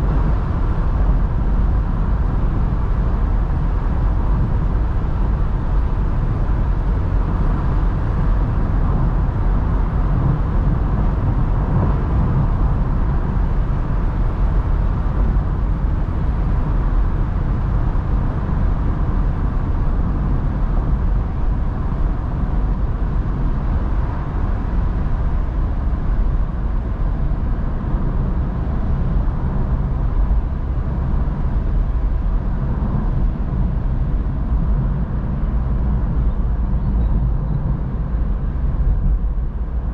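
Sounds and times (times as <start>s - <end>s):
car engine hum: 0.0s - 39.9s
road and wind noise in car: 0.0s - 39.9s.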